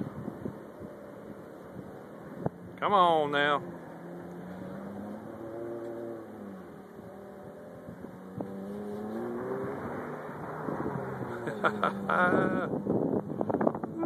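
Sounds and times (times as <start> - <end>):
vehicle driving through mud: 0.0 - 14.0
engine revving: 2.4 - 14.0.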